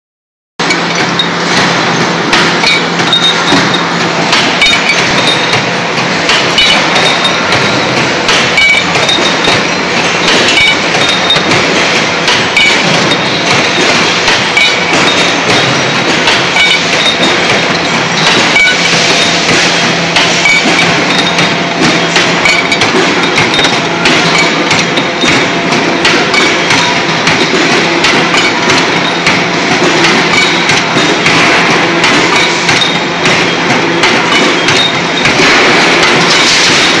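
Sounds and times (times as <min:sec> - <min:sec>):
metallic clanking and knocking: 0:00.6 - 0:37.0
steady low machine hum: 0:00.6 - 0:37.0.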